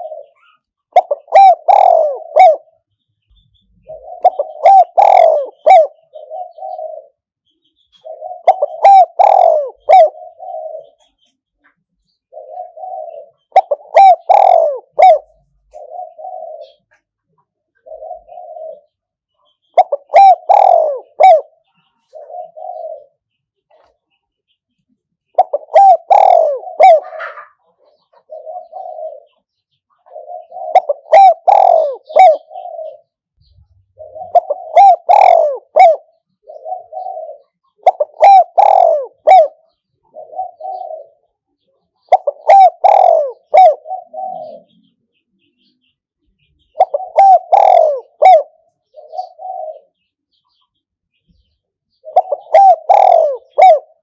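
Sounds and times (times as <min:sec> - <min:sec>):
dove cooing: 0:00.0 - 0:11.3, 0:12.1 - 0:24.0, 0:25.3 - 0:54.0.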